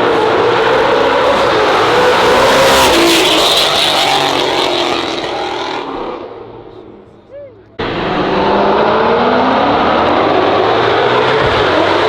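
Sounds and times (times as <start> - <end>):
performance car engine revving: 0.0 - 6.7, 7.8 - 12.0.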